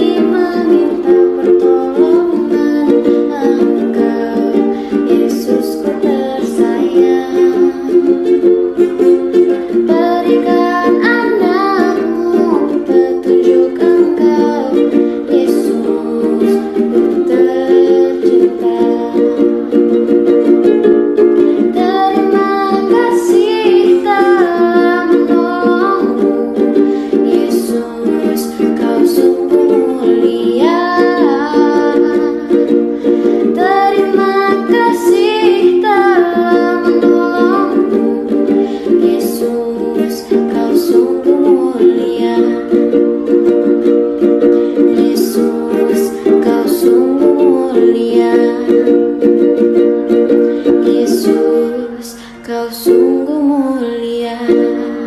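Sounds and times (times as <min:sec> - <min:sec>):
person singing: 0:00.0 - 0:55.0
plucked string accompaniment: 0:00.0 - 0:55.0.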